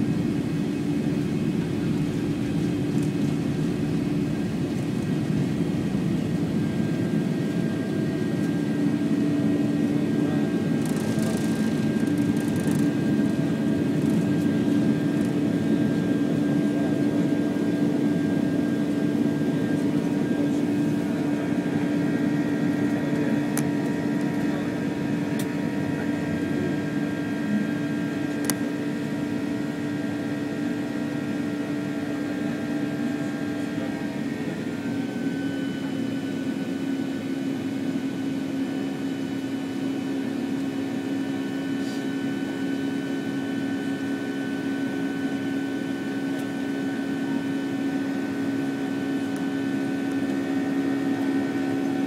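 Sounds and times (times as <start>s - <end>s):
jet engines droning in cabin: 0.0s - 52.0s.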